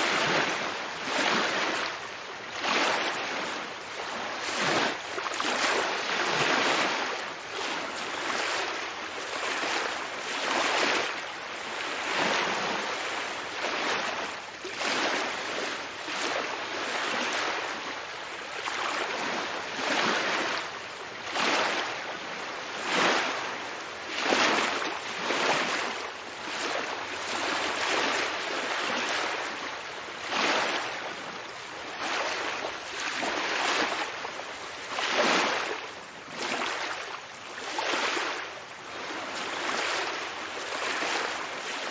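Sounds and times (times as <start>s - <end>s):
ocean waves washing in: 0.0s - 41.9s.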